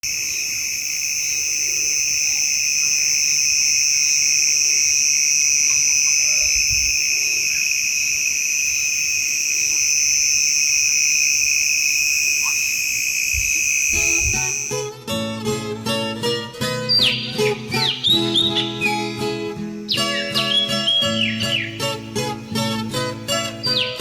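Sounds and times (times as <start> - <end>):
faint chirps: 0.0 - 14.9, 16.9 - 24.0
shrill insect drone: 0.0 - 14.9, 17.0 - 24.0.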